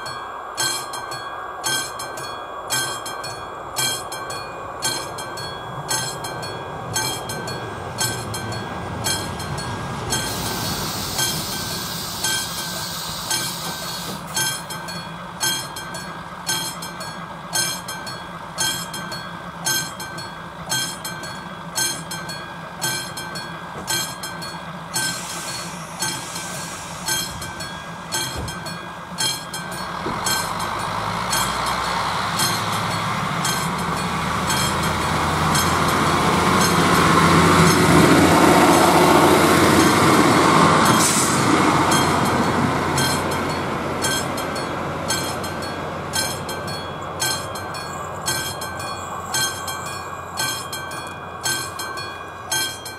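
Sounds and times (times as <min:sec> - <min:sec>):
level crossing bell ringing: 0:00.0 - 0:52.9
passenger train passing: 0:00.0 - 0:52.9.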